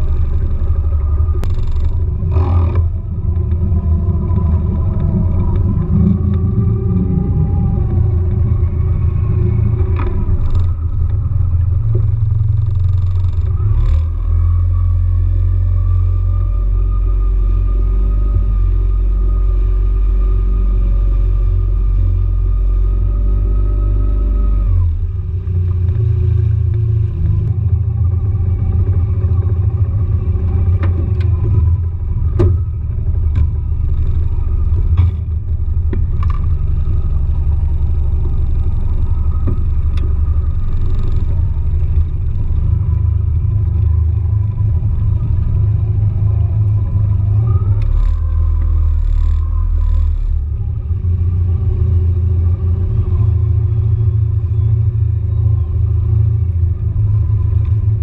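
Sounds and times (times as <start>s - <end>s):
boat engine running: 0.0s - 58.0s
heavy low rumble: 0.0s - 58.0s.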